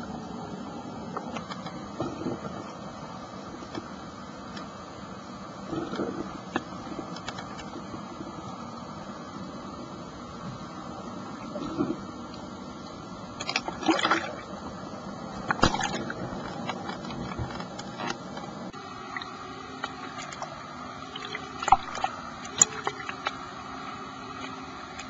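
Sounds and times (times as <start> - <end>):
underwater noise: 0.0 - 25.0.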